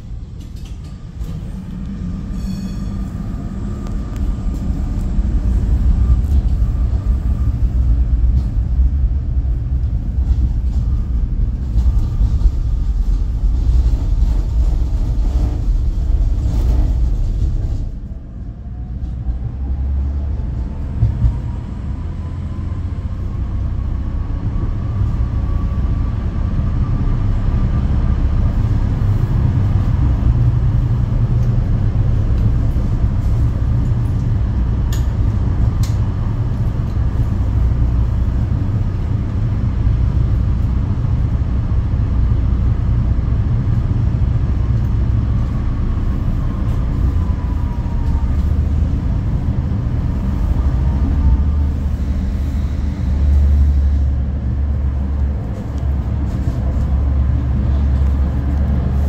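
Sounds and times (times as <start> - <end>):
tram wheels rumbling on rail: 0.0 - 59.0.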